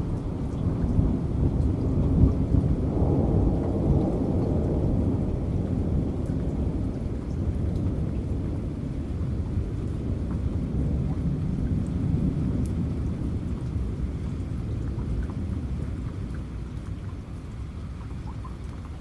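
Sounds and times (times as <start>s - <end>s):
rain falling: 0.0s - 19.0s
raindrops dripping: 0.0s - 19.0s.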